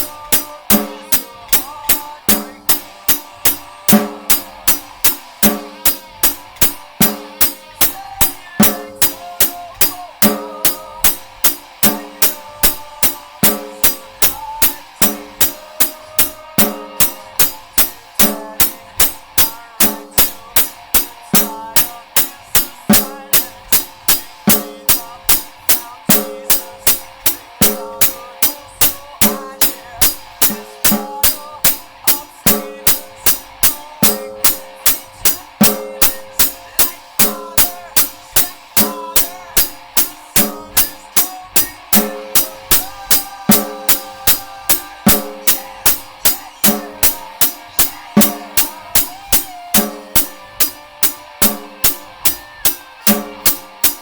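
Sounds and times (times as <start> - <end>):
drum kit steady beat: 0.0 - 54.0
rock band playing: 0.0 - 54.0.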